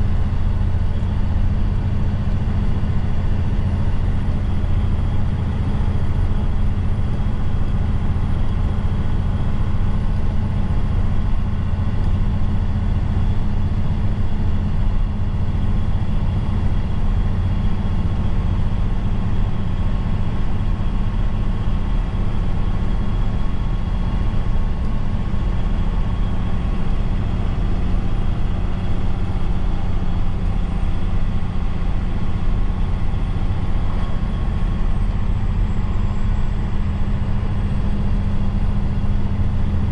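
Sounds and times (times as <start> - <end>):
road noise: 0.0 - 39.9
truck engine running: 0.0 - 39.9.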